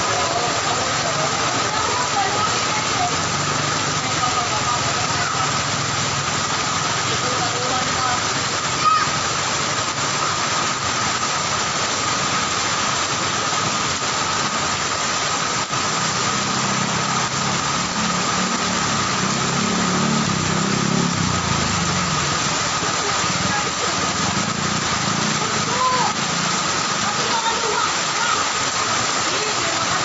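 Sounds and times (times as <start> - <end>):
heavy rain hissing: 0.0 - 30.0.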